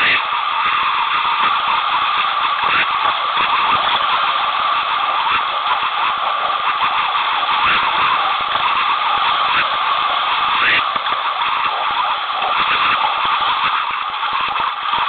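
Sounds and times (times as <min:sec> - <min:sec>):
sharp water splashes: 0:00.0 - 0:15.0
water rushing over rocks: 0:00.0 - 0:15.0.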